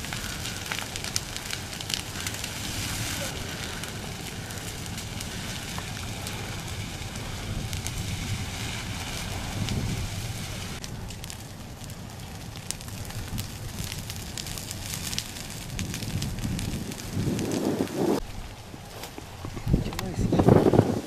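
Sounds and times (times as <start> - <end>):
low rumble: 0.0 - 20.8
fire rushing: 0.0 - 21.0
vegetation crackling and popping: 0.0 - 21.0.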